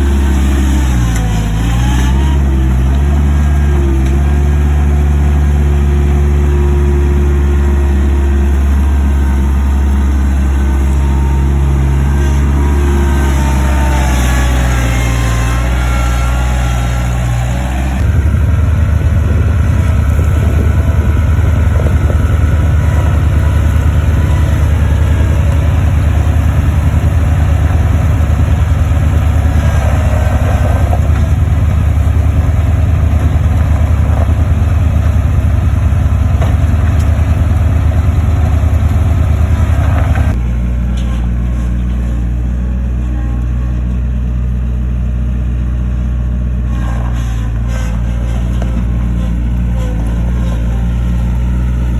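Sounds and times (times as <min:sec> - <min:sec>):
skid steer engine running: 0:00.0 - 0:51.9.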